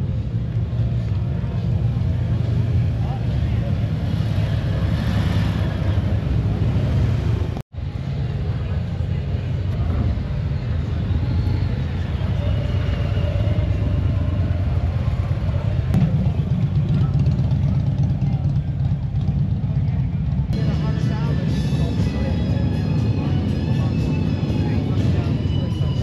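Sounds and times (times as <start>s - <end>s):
motorcycle engines rumbling: 0.0s - 26.0s.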